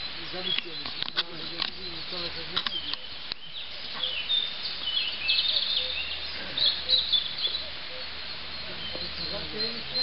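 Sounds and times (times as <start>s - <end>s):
small birds chirping: 0.0s - 10.0s
steady outdoor hiss: 0.0s - 10.0s.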